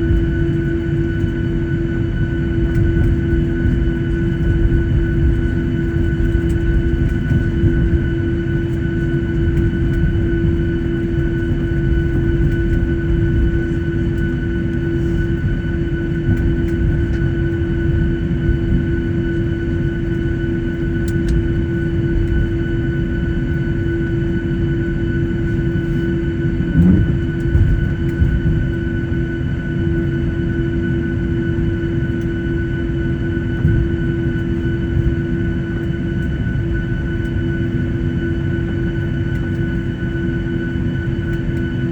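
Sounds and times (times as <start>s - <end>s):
low rumble of jet engines idling: 0.0s - 41.9s.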